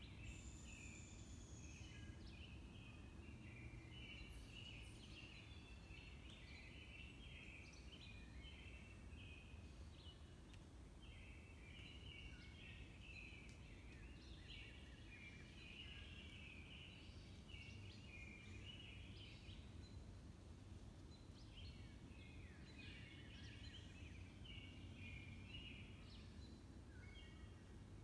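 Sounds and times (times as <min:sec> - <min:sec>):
low steady background noise: 0:00.0 - 0:28.0
songbirds singing: 0:00.0 - 0:28.0.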